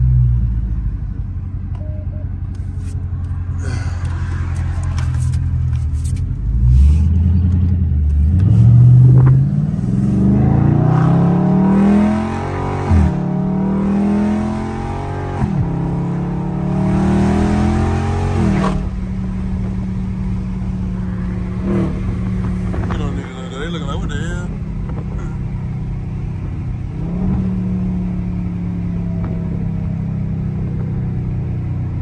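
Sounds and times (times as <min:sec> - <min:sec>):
car exhaust accelerating hard: 0:02.5 - 0:32.0.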